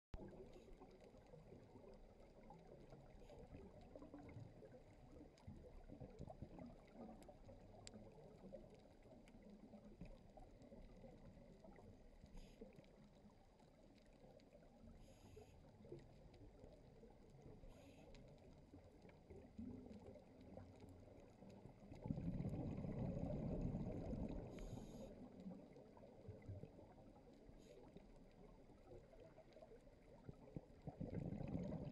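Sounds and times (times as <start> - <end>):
low rumbling bubbles: 0.2 - 31.9
underwater crackle and hiss: 0.2 - 31.9.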